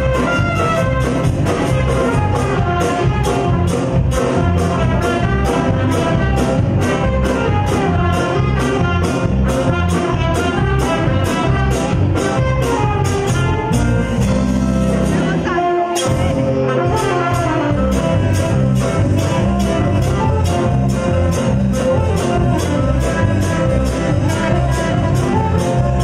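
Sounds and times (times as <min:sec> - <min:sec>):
bass: 0:00.0 - 0:26.0
drums: 0:00.0 - 0:26.0
keyboard: 0:00.0 - 0:26.0
saxophones: 0:00.0 - 0:26.0
trumpet: 0:00.0 - 0:26.0.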